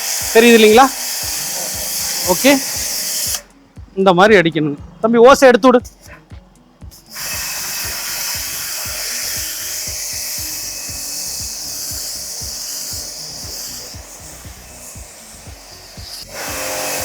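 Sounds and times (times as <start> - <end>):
pressure washer spraying: 0.0 - 3.6, 6.9 - 17.0.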